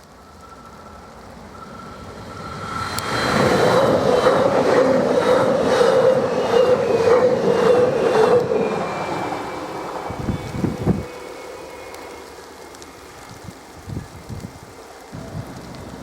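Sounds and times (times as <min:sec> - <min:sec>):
electric train passing: 0:00.0 - 0:14.1, 0:14.7 - 0:16.0.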